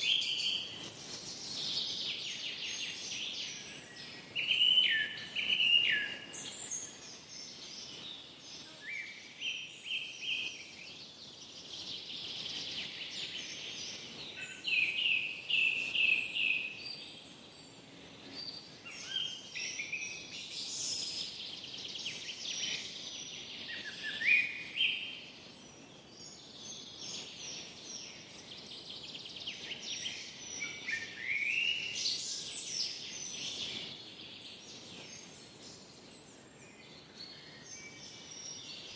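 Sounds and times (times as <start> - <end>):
soft steady hiss: 0.0 - 38.9
songbirds singing and chirping: 0.0 - 38.9.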